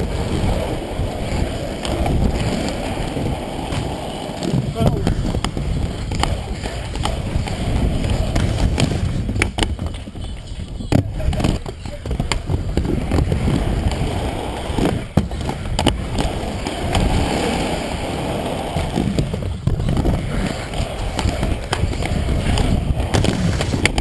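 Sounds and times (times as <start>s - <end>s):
skate wheels rolling on concrete: 0.0s - 24.0s.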